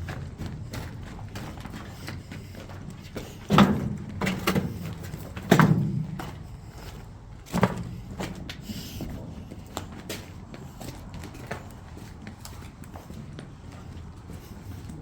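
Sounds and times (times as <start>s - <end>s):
footsteps crunching on gritty floor: 0.0s - 15.0s.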